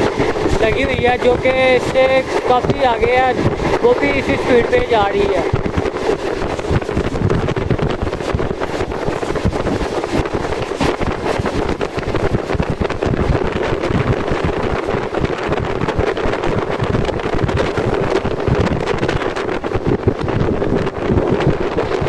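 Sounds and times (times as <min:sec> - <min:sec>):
train rushing at speed: 0:00.0 - 0:22.0
wind buffeting microphone: 0:00.0 - 0:22.0.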